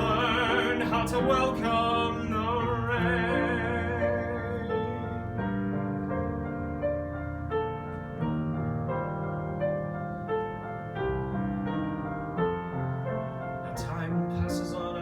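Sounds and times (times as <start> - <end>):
slow piano playing: 0.0 - 15.0.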